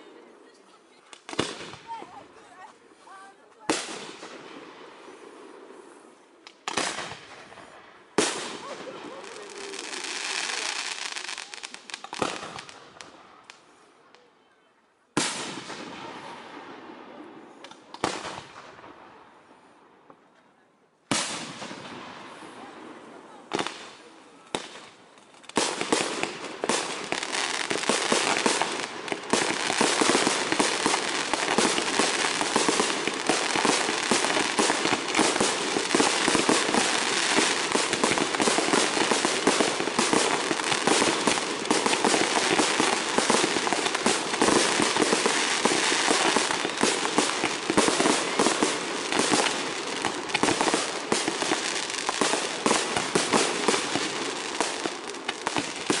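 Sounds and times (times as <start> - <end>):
fireworks crackling: 0.0 - 14.3, 15.2 - 16.6, 21.1 - 56.0
fireworks barrage: 1.1 - 2.2, 3.1 - 13.6, 15.2 - 17.2, 21.1 - 56.0.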